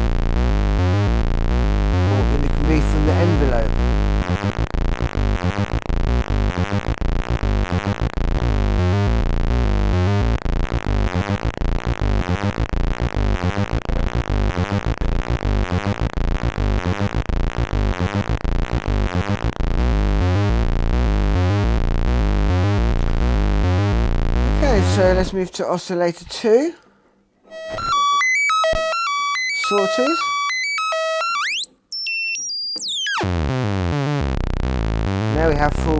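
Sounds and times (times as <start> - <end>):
low buzzy synthesizer tone: 0.0 - 25.2, 27.5 - 35.9.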